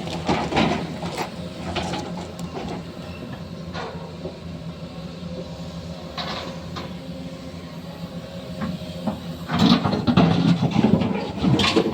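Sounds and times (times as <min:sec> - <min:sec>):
machinery humming: 0:00.0 - 0:11.9.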